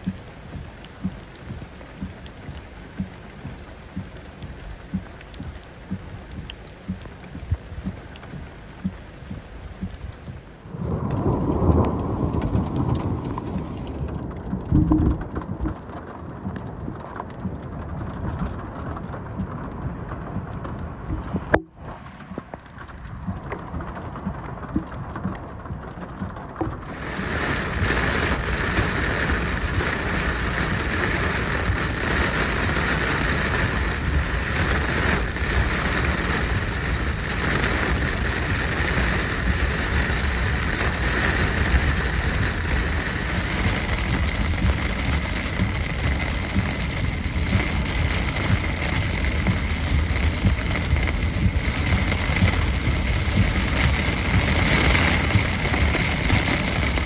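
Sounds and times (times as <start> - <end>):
deep rolling thunder: 0.0 - 57.0
rain falling: 0.0 - 57.0.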